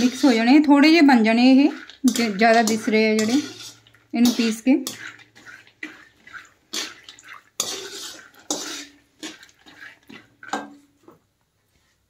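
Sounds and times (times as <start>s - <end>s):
nuts sizzling in fat: 0.0s - 10.8s
metal mesh scraping a pan: 0.0s - 10.9s.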